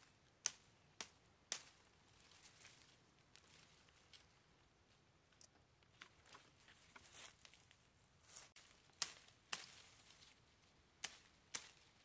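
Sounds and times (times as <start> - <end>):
dry vegetation rustling: 0.0 - 12.0.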